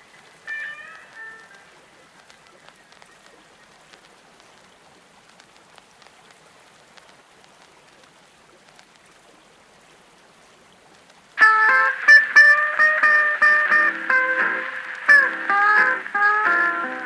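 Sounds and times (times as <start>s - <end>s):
faint water sound: 0.0s - 17.0s.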